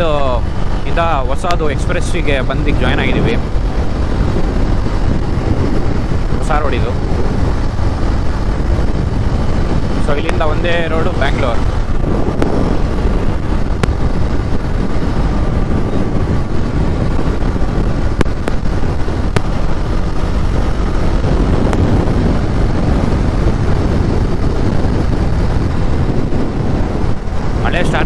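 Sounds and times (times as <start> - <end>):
motorcycle engine: 0.0 - 28.0
road noise: 0.0 - 28.0
wind rush on microphone: 0.0 - 28.0.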